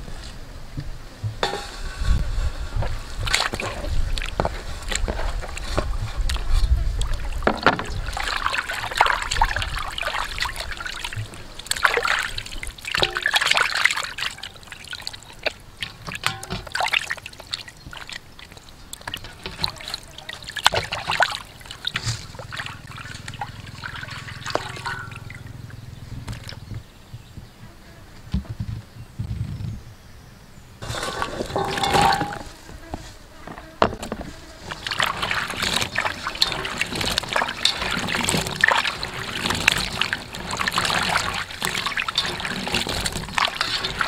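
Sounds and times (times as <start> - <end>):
water splashing in a metal bowl: 1.4 - 26.6, 30.8 - 32.6, 34.6 - 44.0.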